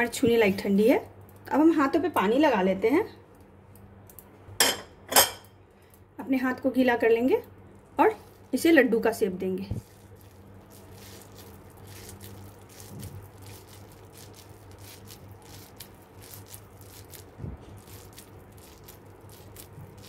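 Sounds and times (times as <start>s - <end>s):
squishing and crackling food: 0.0s - 4.5s, 7.0s - 20.0s
low steady hum: 0.0s - 20.0s.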